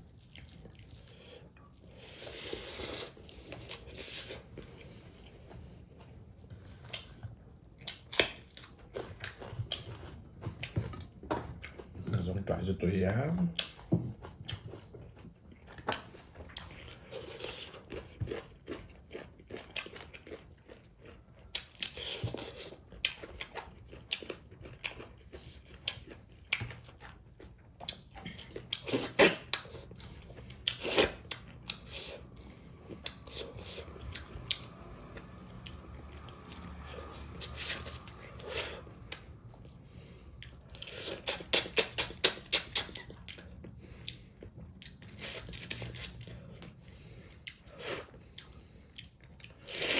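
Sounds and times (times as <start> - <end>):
person chewing crunchy food: 0.0 - 12.3, 13.6 - 49.9.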